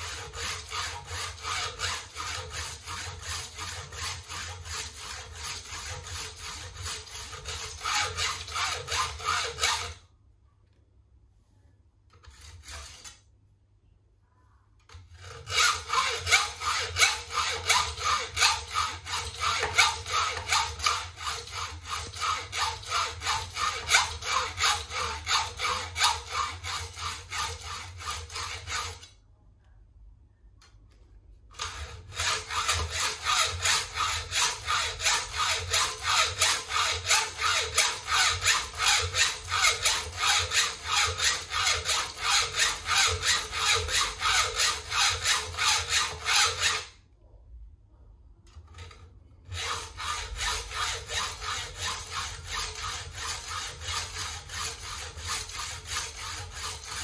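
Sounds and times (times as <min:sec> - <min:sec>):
hacksaw cutting metal: 0:00.0 - 0:10.0, 0:12.1 - 0:13.2, 0:15.1 - 0:29.1, 0:31.6 - 0:46.9, 0:49.5 - 0:57.0.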